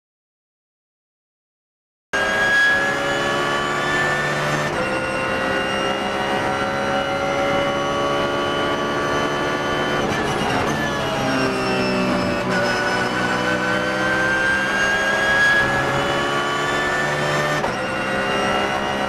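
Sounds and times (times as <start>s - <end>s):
race car engine at full throttle: 2.2s - 19.0s.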